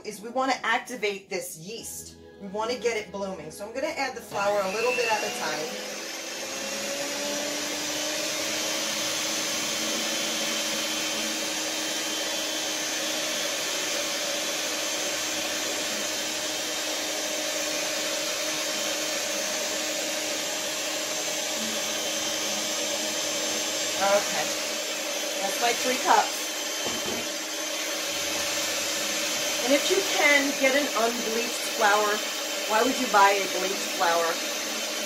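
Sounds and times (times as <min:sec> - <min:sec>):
stand mixer motor whine: 0:04.3 - 0:35.0.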